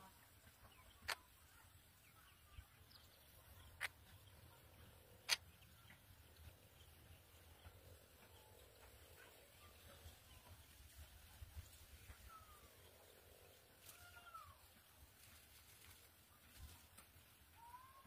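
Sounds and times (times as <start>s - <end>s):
faint bird chirps: 0.0s - 14.8s, 17.5s - 18.0s.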